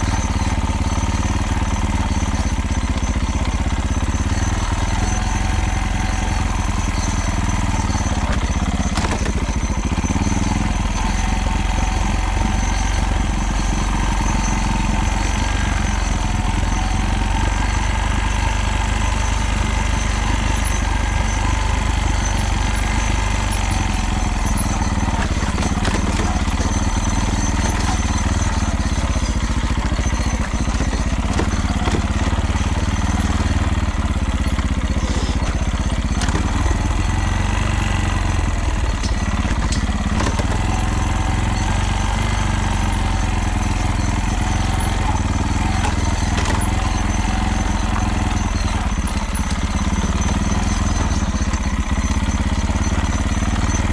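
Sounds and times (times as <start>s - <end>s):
engine rattle: 0.0s - 53.9s
motorcycle engine running: 0.0s - 53.9s.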